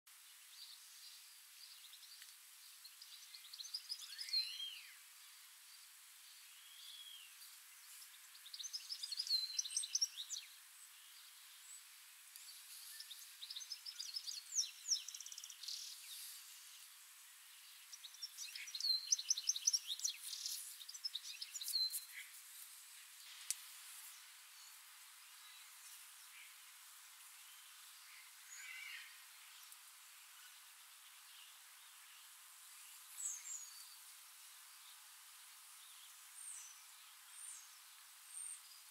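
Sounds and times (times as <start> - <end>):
faint steady hiss: 0.1 - 38.9
songbirds singing: 0.1 - 38.9.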